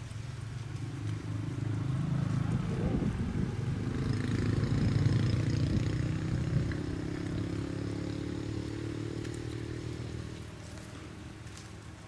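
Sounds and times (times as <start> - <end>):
motor engine running: 0.4 - 11.7.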